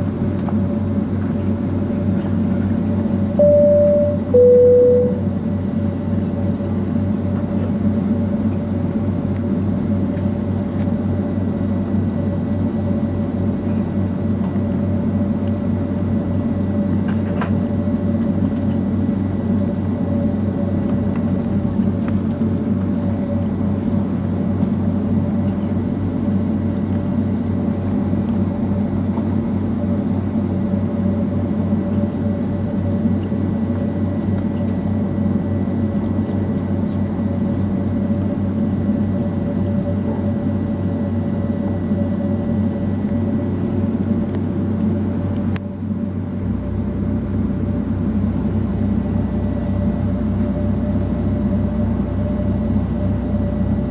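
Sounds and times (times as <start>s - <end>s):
jet engine cabin drone: 0.0s - 53.9s.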